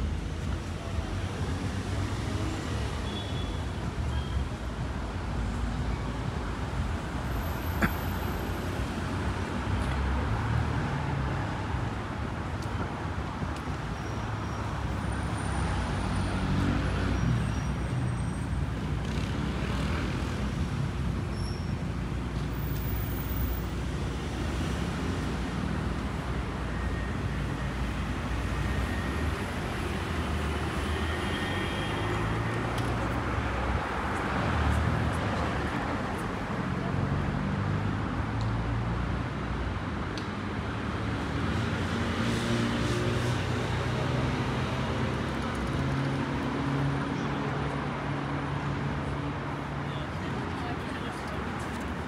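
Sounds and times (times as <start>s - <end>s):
cars on wet street: 0.0s - 52.0s.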